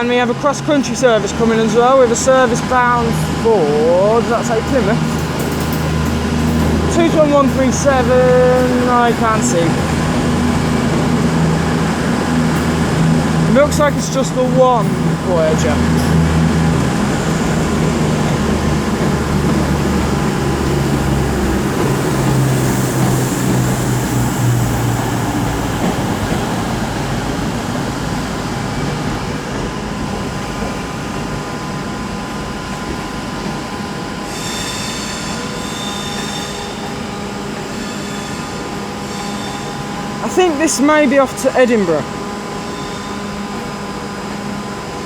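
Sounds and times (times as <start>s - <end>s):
diesel train engines droning: 0.0s - 45.0s.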